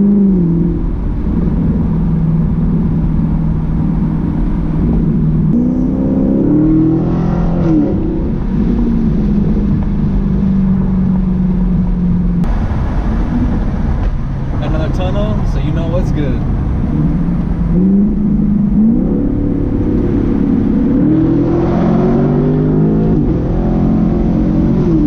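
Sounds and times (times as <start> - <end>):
car engine drone from cabin: 0.0 - 25.0.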